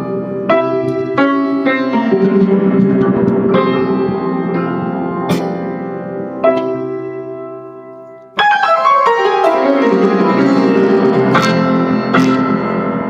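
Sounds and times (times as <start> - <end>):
prepared piano playing: 0.0 - 13.0.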